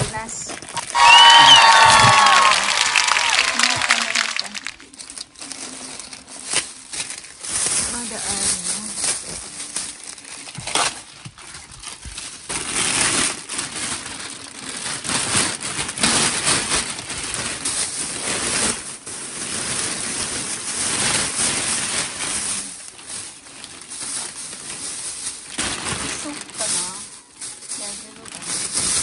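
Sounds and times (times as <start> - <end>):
plastic bags crinkling: 0.0 - 29.0.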